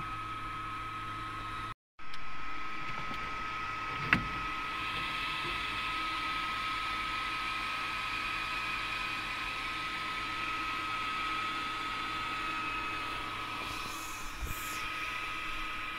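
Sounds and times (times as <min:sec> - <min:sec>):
electrical whine with fan hiss: 0:00.0 - 0:15.9.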